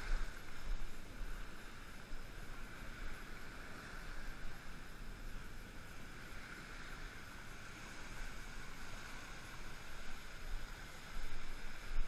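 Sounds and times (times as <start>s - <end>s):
shallow surf washing: 0.0s - 12.0s
wind rumbling on microphone: 0.0s - 12.0s.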